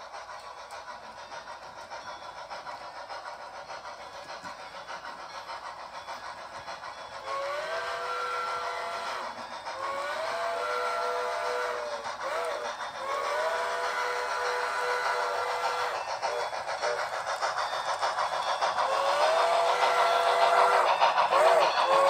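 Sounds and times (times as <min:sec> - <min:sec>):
chime steam whistle: 0:00.0 - 0:22.0
model steam locomotive chuffing: 0:00.0 - 0:22.0.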